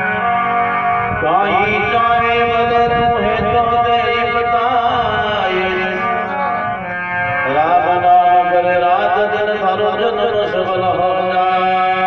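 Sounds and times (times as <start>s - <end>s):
harmonium chords: 0.0s - 12.0s
man singing: 0.0s - 12.0s.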